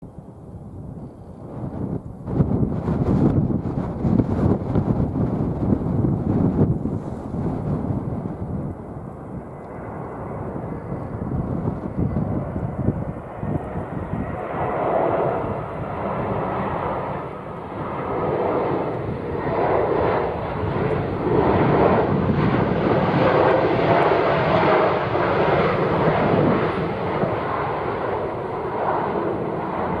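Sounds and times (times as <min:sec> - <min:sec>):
jet engines roaring: 0:00.1 - 0:30.0.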